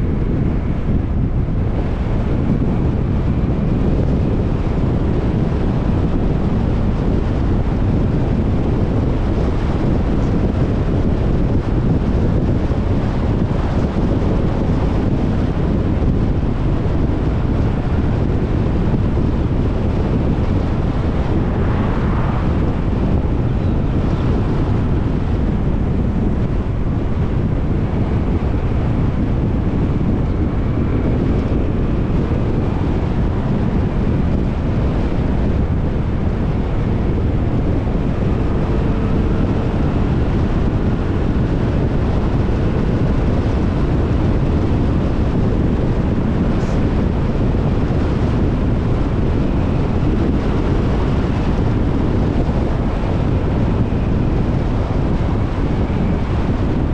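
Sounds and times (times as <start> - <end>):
vehicle engine running: 0.0 - 56.9
wind buffeting microphone: 0.0 - 56.9.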